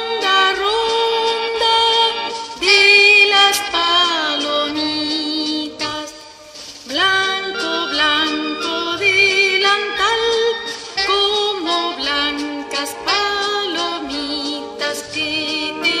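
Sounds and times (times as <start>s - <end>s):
children's song with singing: 0.0s - 16.0s.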